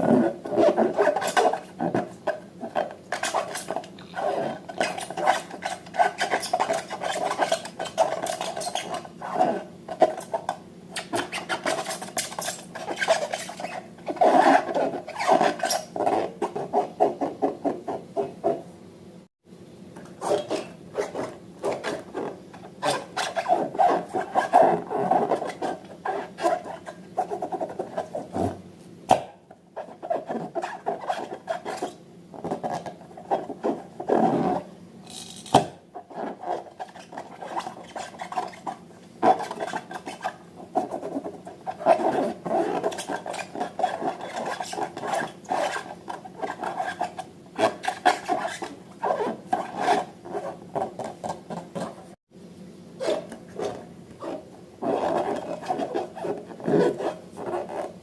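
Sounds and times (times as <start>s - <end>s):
slime rubbing and scraping: 0.0s - 18.6s, 20.2s - 28.6s, 29.8s - 34.7s, 35.9s - 52.2s, 53.0s - 58.0s.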